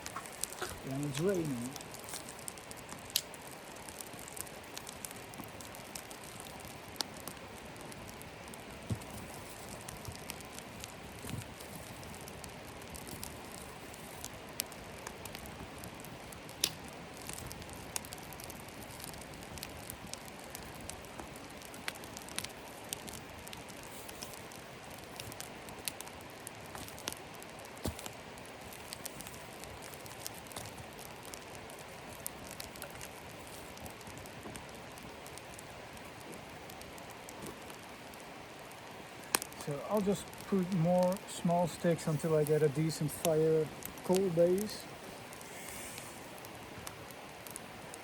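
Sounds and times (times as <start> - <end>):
campfire crackling and popping: 0.0 - 48.0
rain patter: 0.0 - 48.0.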